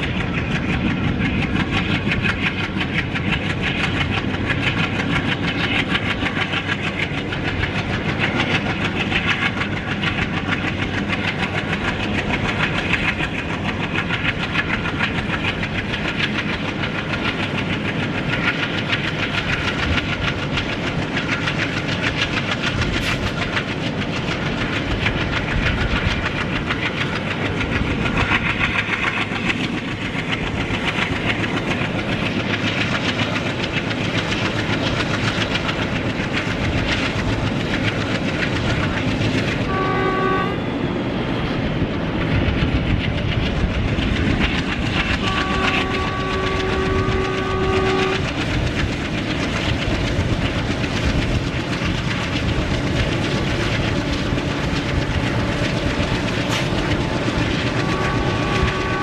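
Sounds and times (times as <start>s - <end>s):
coaches rattling on track: 0.0s - 59.0s
diesel locomotive working hard: 0.0s - 59.0s.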